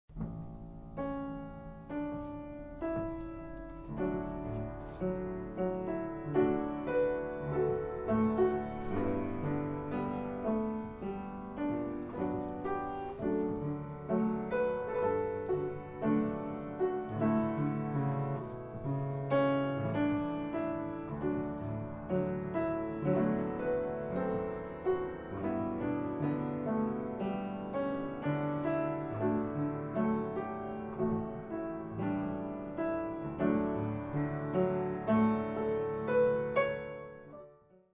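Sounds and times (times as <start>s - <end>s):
piano music: 0.1s - 37.9s.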